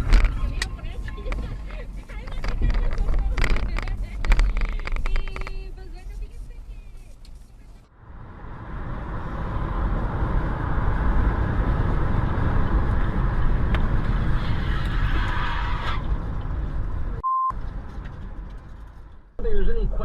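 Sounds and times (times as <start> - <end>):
road noise hiss: 0.0 - 17.2
car engine and tyre rumble: 0.0 - 20.0.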